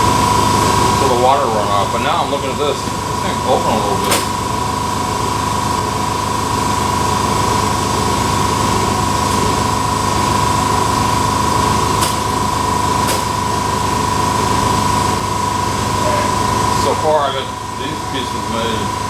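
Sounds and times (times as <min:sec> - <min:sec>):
air compressor running: 0:00.0 - 0:19.0.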